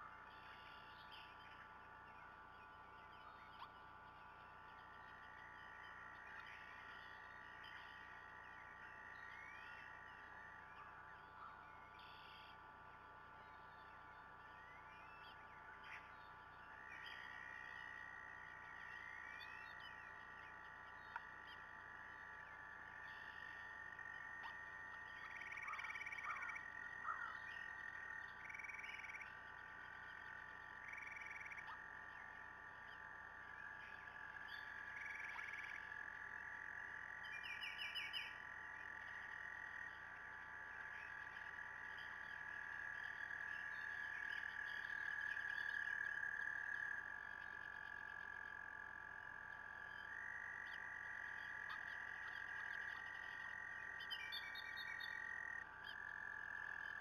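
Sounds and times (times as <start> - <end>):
bird chirp: 0.0 - 48.5, 49.6 - 56.1
frog chorus trilling: 0.0 - 57.0.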